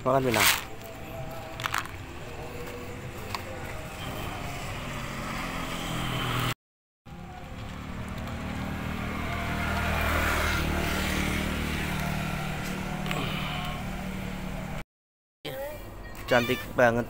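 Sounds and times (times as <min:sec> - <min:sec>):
vehicle engine passing: 0:00.5 - 0:14.8.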